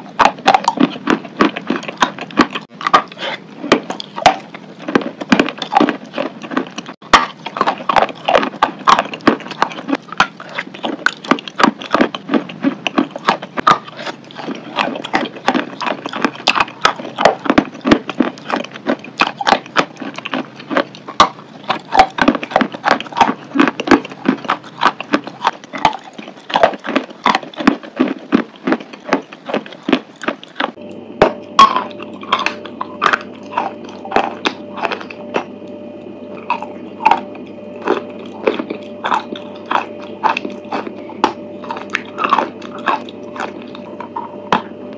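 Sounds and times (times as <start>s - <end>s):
chewing crunchy chalk: 0.0s - 35.7s, 36.3s - 44.8s
faint steady hum: 0.0s - 44.9s.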